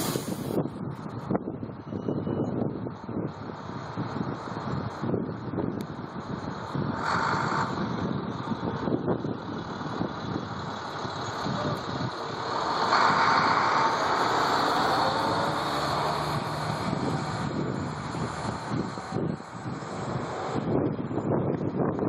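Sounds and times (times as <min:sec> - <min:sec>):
buses passing on snowy road: 0:00.0 - 0:22.0.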